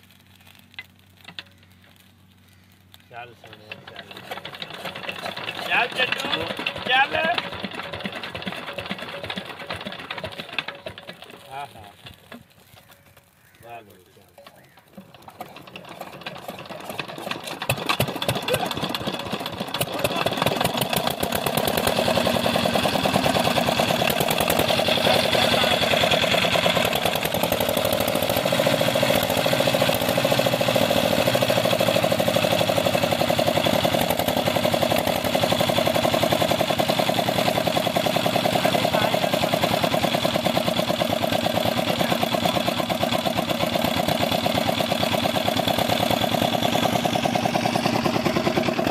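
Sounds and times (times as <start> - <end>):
diesel engine starting and chugging: 3.1 - 12.5, 14.5 - 48.9.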